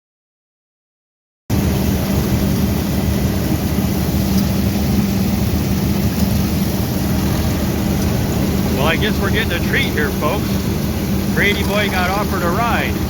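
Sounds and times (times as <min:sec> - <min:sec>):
crawler tractor engine droning: 0:01.5 - 0:13.0.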